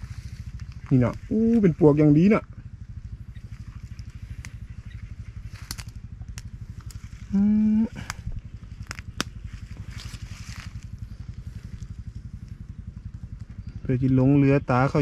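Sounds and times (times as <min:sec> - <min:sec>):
motorcycle engine throbbing: 0:00.0 - 0:15.0.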